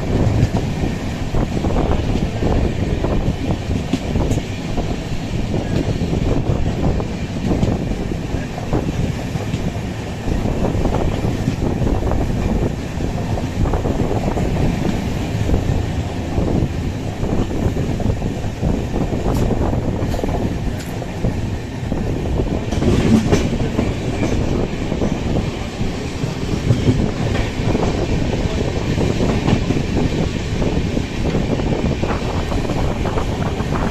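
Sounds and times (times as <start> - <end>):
train running rumble: 0.0 - 33.9
wind buffeting: 0.0 - 33.9.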